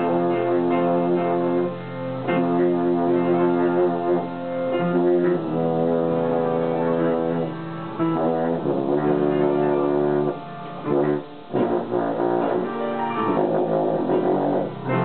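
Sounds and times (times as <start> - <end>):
baritone horn melody: 0.0 - 15.0
player piano: 0.0 - 15.0.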